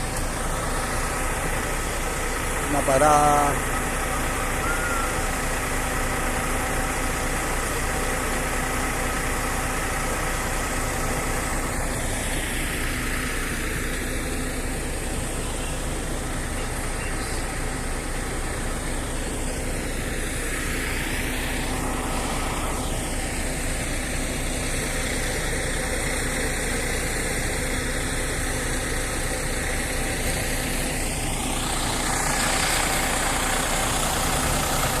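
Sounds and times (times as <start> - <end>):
vehicle engine rumbling: 0.0 - 35.0.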